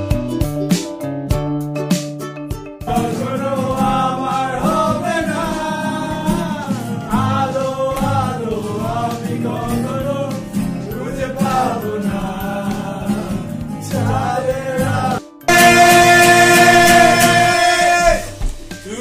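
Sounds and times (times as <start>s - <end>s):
men singing together: 2.9s - 19.0s.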